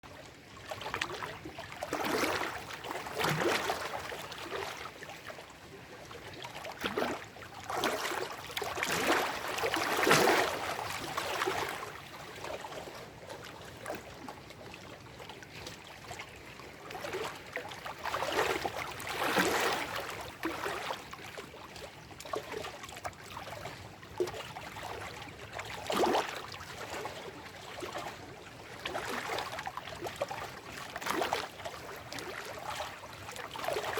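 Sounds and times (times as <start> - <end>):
waves lapping over rocks: 0.5 - 14.7, 15.3 - 33.9.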